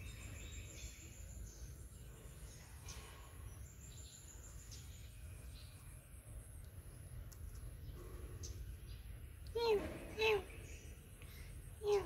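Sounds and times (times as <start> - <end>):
faint high chirps and ticks: 0.0 - 12.0.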